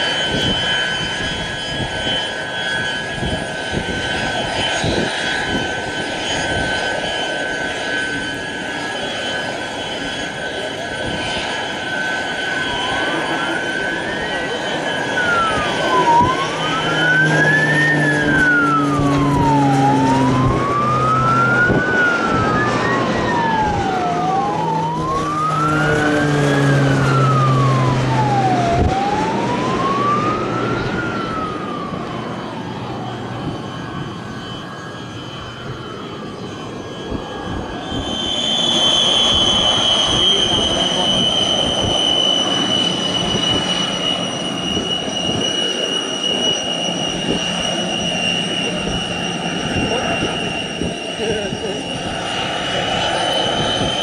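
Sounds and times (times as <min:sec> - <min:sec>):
siren wailing: 0:00.0 - 0:54.0
turboprop aircraft engine: 0:00.0 - 0:54.0.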